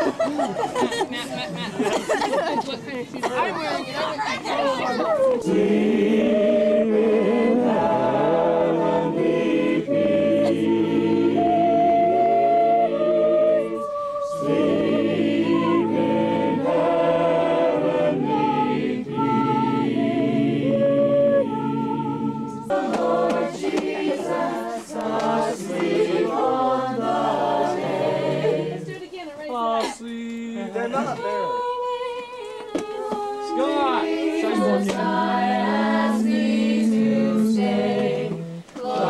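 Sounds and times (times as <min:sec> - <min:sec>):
carolers singing unaccompanied: 0:03.2 - 0:39.0.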